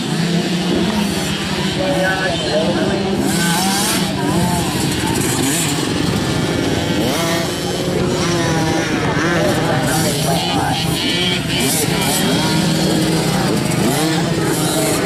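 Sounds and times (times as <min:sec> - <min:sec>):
small motorbike engines revving: 0:00.0 - 0:15.0.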